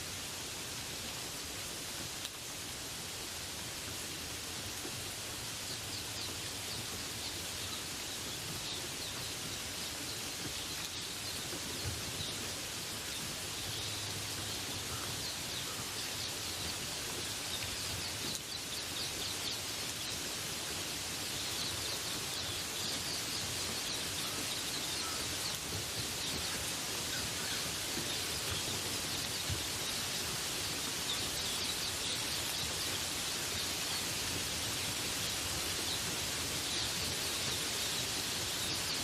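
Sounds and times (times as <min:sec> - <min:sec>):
rain hiss: 0:00.0 - 0:39.0
songbirds chirping: 0:00.2 - 0:39.0.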